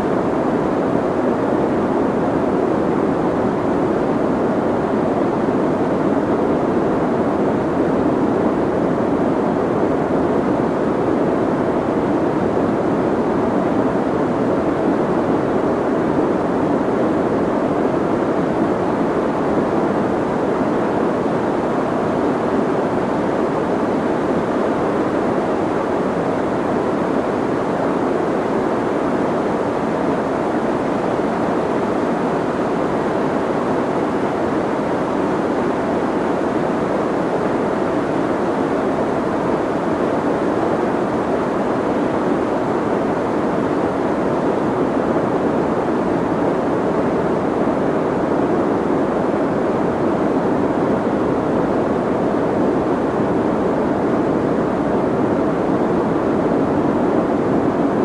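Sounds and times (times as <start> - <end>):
soft white noise hiss: 0.0 - 58.0.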